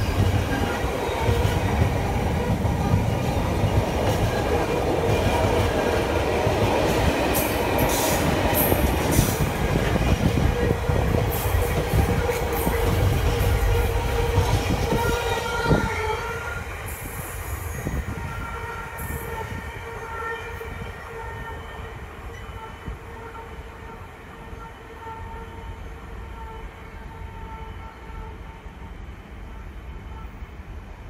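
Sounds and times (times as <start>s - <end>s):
freight train clacking over rail joints: 0.0s - 25.4s.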